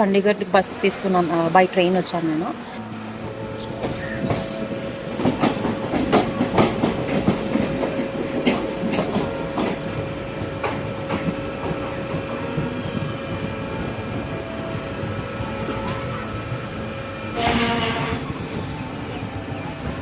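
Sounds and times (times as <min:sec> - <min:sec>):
steady train hum: 0:00.0 - 0:20.0
train wheels clattering on track: 0:03.2 - 0:20.0.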